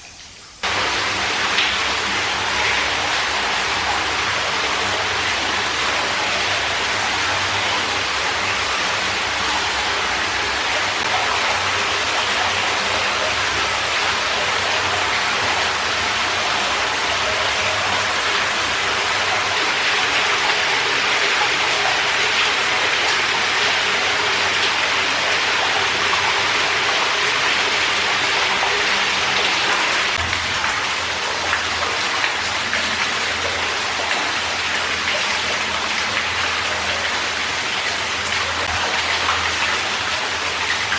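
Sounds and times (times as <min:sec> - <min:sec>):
water falling and running: 0:00.0 - 0:40.9.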